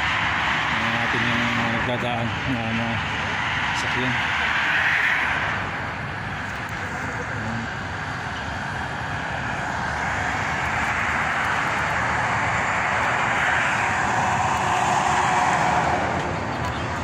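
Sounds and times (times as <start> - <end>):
road traffic rushing: 0.0 - 17.0.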